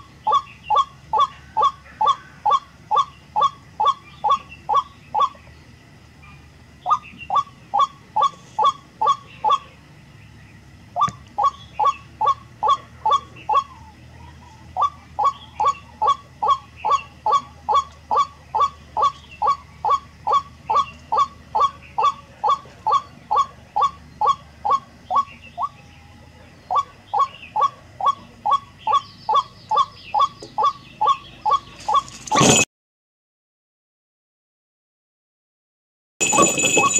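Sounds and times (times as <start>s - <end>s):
bird calling: 0.0s - 32.6s, 36.2s - 36.9s.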